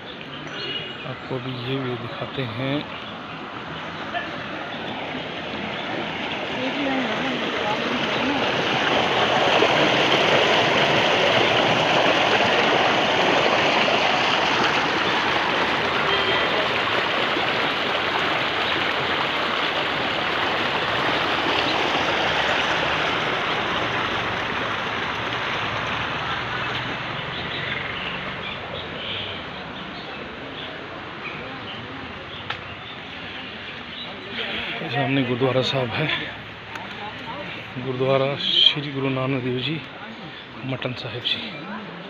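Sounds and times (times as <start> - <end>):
water rushing through stone channel: 1.2 - 42.0.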